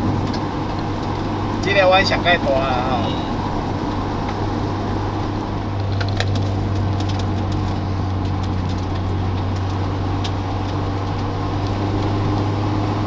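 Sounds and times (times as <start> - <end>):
car engine droning steadily: 0.0 - 13.0.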